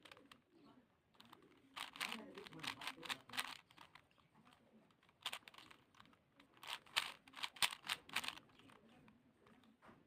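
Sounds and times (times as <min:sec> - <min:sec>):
plastic puzzle cube clicking: 0:00.0 - 0:00.5, 0:01.1 - 0:04.2, 0:04.9 - 0:09.7.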